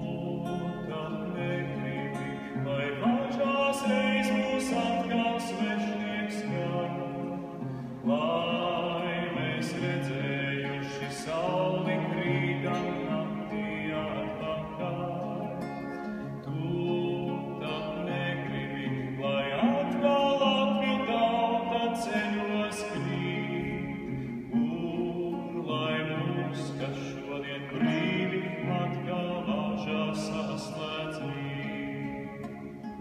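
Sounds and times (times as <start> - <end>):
man singing slow song: 0.0 - 33.0
nylon-string guitar: 0.0 - 33.0.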